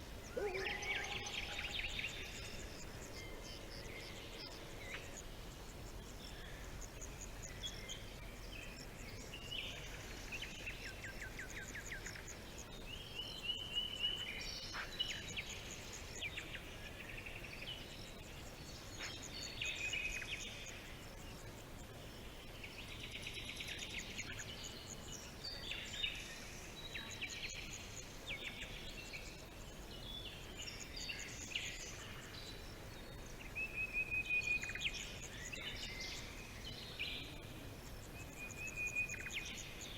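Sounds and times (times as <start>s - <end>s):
birds singing and calling: 0.0s - 21.5s, 22.2s - 39.9s
faint steady hiss: 0.0s - 39.9s.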